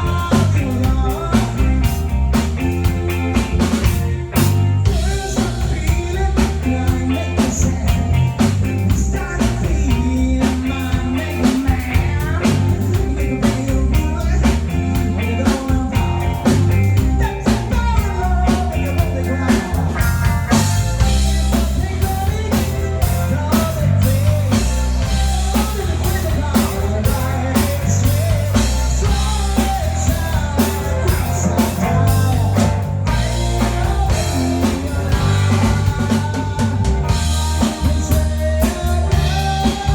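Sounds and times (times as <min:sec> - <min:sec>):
drum kit beat: 0:00.0 - 0:39.9
rock band playing live: 0:00.0 - 0:39.9.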